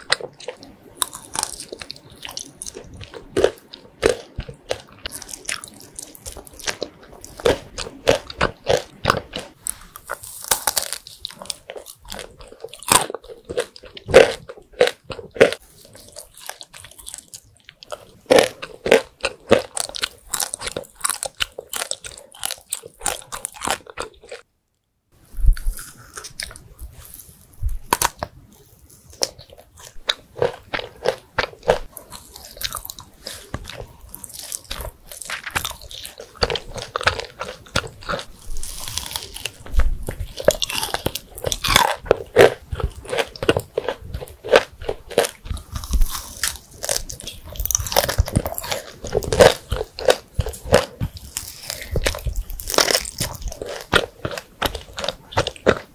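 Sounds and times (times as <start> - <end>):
biting and chewing crunchy sweets: 0.0 - 24.5, 25.2 - 55.9.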